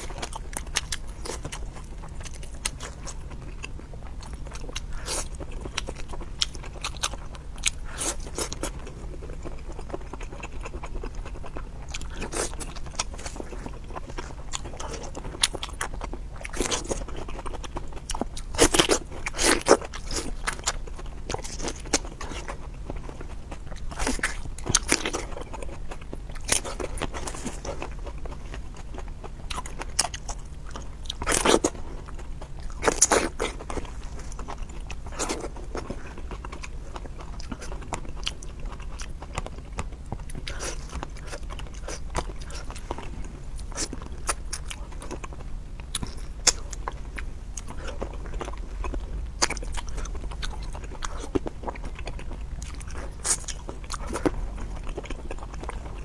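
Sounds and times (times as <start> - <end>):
faint low hum: 0.0 - 56.0
person chewing crunchy food: 0.0 - 56.0.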